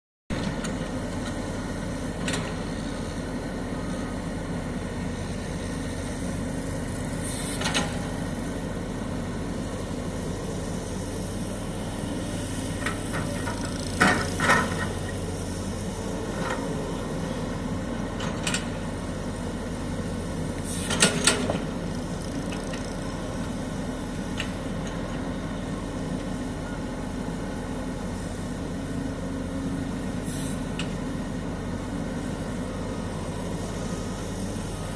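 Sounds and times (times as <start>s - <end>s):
excavator diesel engine running: 0.3s - 34.9s.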